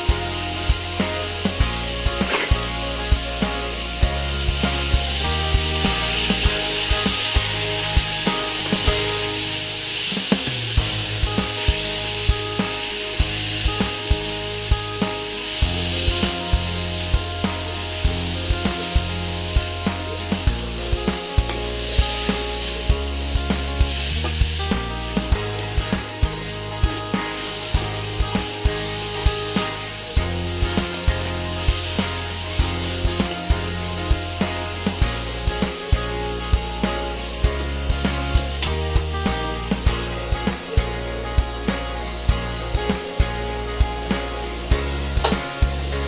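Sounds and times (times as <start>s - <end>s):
background music with steady beat: 0.0s - 46.0s
food sizzling in a wok: 0.0s - 46.0s.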